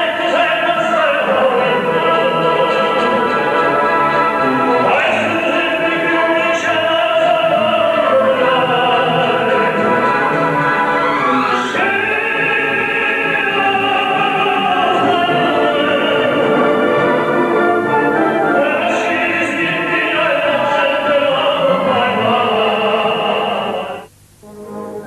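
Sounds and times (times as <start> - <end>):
operatic singing: 0.0 - 24.1
orchestra playing: 0.5 - 25.0.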